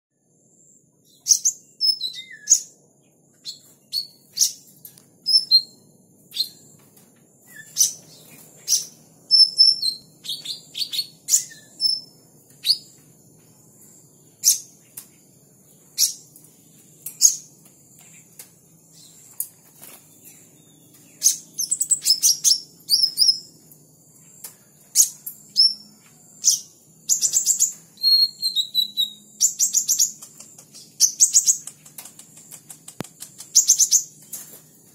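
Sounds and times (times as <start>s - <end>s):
bird chipping and twittering: 1.0s - 6.7s, 7.4s - 13.0s, 14.2s - 23.6s, 25.0s - 34.5s.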